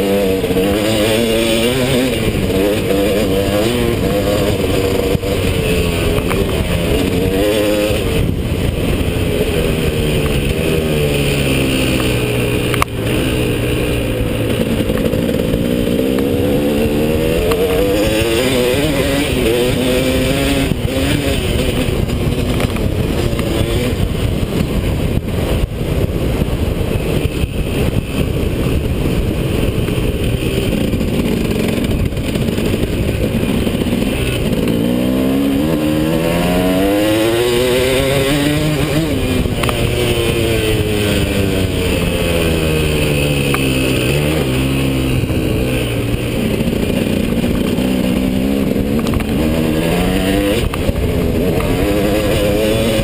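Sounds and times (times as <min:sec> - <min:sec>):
motocross engine revving: 0:00.0 - 0:53.0.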